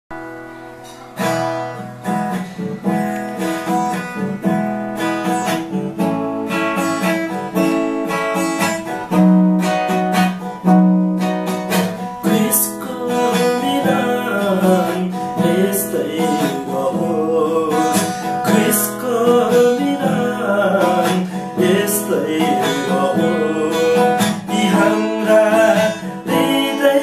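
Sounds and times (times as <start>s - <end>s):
acoustic guitar strumming chords: 0.1s - 27.0s.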